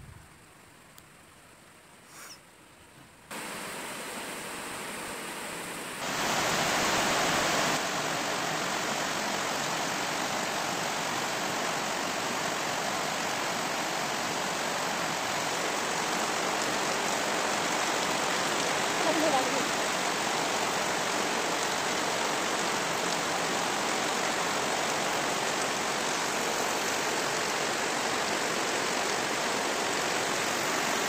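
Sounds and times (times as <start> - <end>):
heavy rain pouring: 3.3 - 31.0.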